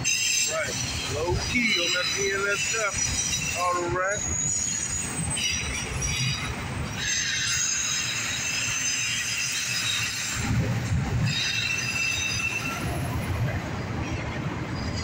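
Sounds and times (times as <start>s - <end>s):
high-pitched wheel squeal: 0.0s - 10.5s, 11.2s - 13.2s
steel wheels rumbling on rail: 0.0s - 15.0s.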